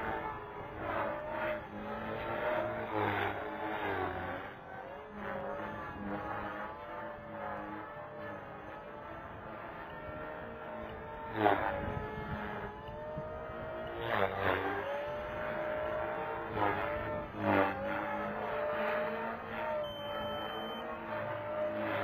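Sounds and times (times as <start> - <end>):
rc helicopter motor and rotor whine: 0.0 - 22.0.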